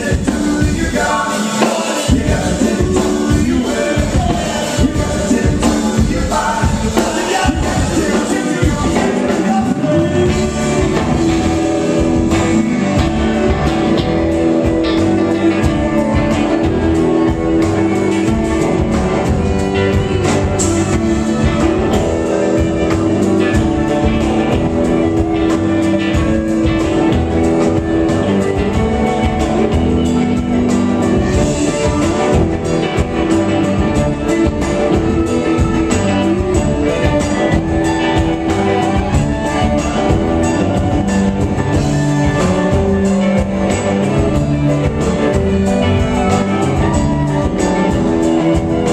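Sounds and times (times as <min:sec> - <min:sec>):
bass guitar: 0:00.0 - 0:48.9
electric guitars: 0:00.0 - 0:48.9
saxophone: 0:00.0 - 0:48.9
steady drum beat: 0:00.0 - 0:48.9.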